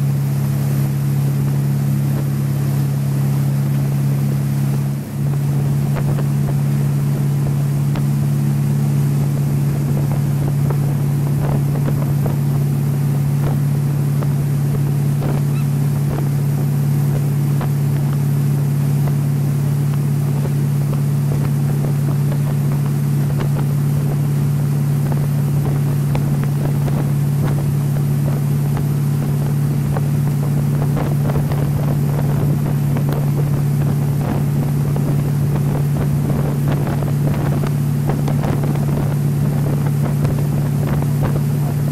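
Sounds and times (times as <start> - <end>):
jet ski engine running: 0.0 - 41.9
wind buffeting microphone: 4.7 - 41.9.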